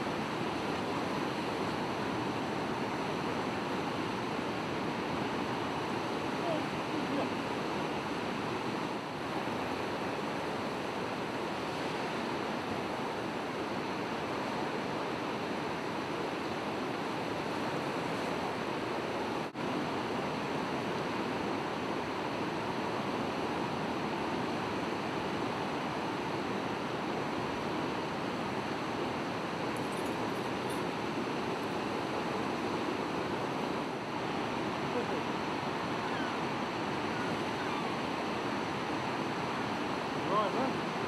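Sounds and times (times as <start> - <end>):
rushing floodwater: 0.0 - 41.0.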